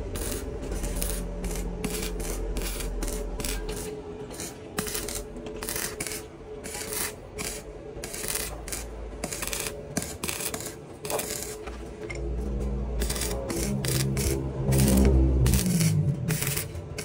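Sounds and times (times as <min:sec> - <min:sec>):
filing metal by hand: 0:00.0 - 0:11.8, 0:13.0 - 0:17.0.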